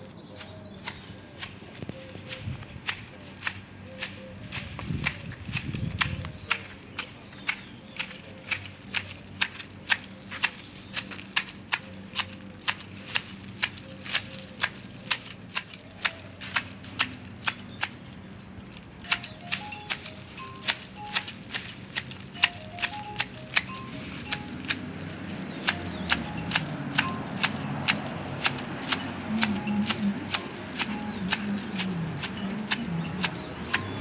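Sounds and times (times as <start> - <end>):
garden shears snipping foliage: 0.0 - 34.0.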